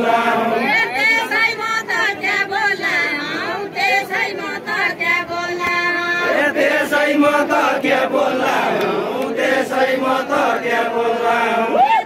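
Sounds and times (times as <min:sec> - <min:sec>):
men singing folk song in chorus: 0:00.0 - 0:03.6, 0:04.7 - 0:11.7.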